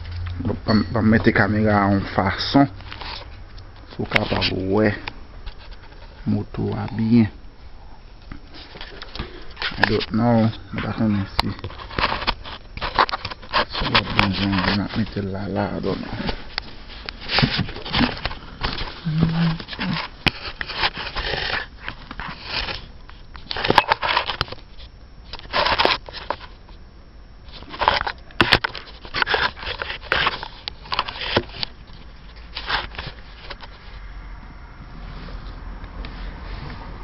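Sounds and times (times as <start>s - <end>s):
rustling and scraping: 0.0s - 7.3s, 8.0s - 26.8s, 27.4s - 34.1s, 34.9s - 37.0s.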